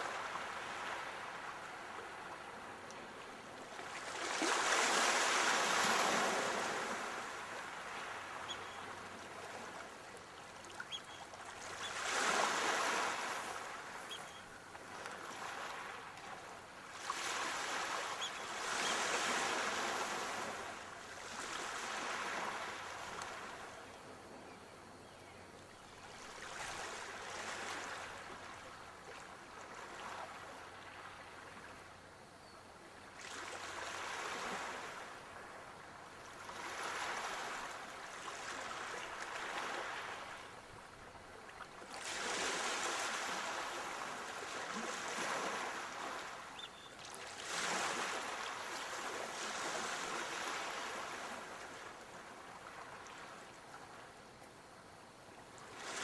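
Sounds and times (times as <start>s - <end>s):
sea waves breaking on shore: 0.0s - 23.9s, 26.0s - 31.9s, 33.1s - 54.1s, 55.5s - 56.0s.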